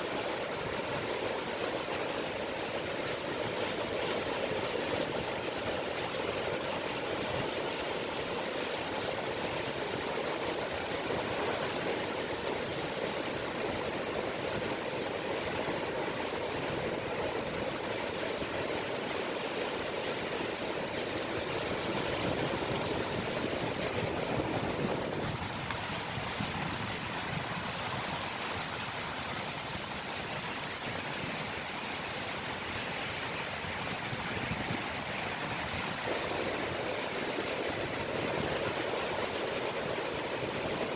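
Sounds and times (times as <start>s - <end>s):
small waves lapping on shore: 0.0s - 40.9s.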